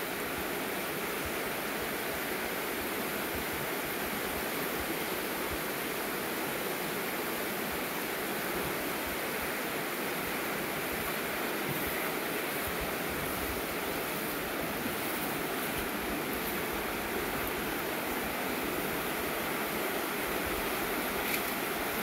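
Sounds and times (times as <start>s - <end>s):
river flowing over stones: 0.0s - 22.0s.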